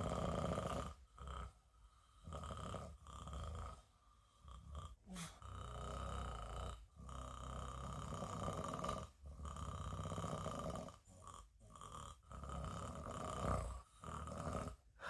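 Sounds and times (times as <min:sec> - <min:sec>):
person snoring: 0:00.0 - 0:15.0.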